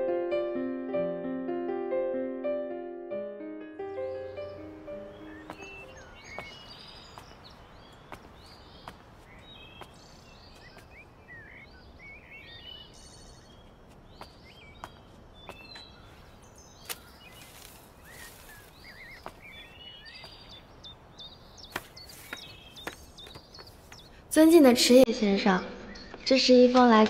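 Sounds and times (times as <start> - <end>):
small birds chirping: 3.9 - 27.0.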